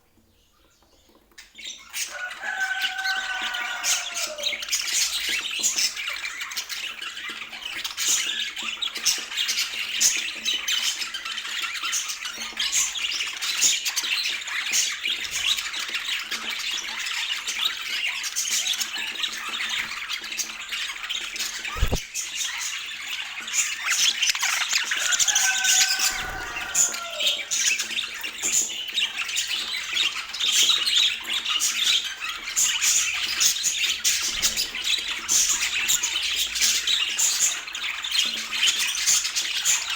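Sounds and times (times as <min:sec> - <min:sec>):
budgerigars chattering and warbling: 0:00.8 - 0:39.9.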